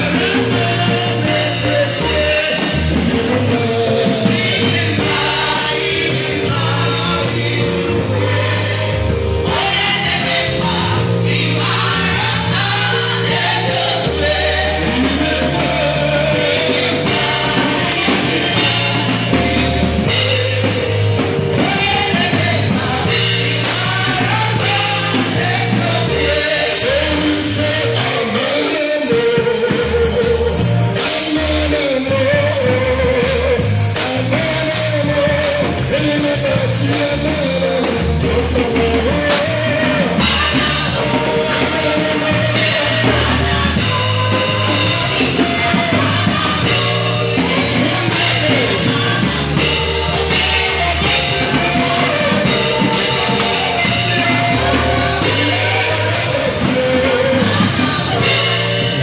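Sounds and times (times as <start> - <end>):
band accompaniment: 0.0 - 59.0
bass line: 0.0 - 59.0
gospel choir singing: 0.0 - 59.0.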